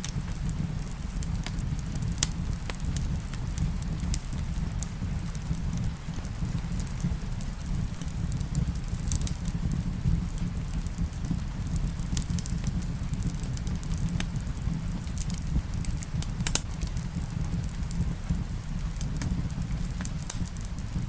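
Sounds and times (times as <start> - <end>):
fire crackling in a fireplace: 0.0 - 21.0
rain: 0.0 - 21.0.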